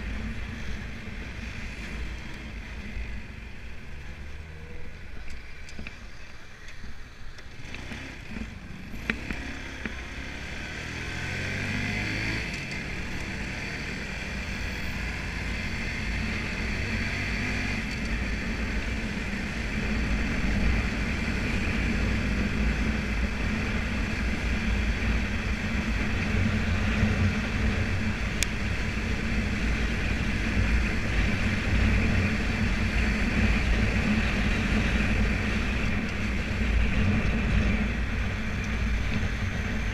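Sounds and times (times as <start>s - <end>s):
wind and road noise: 0.0s - 39.9s
motorbike engine accelerating: 7.5s - 39.9s.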